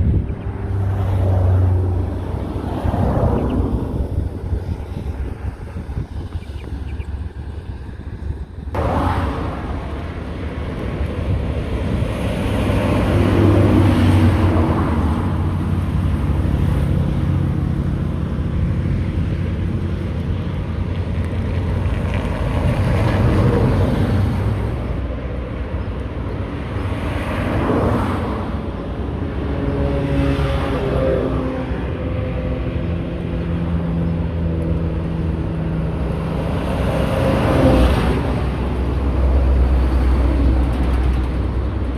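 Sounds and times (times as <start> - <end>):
road traffic passing: 0.0 - 41.9.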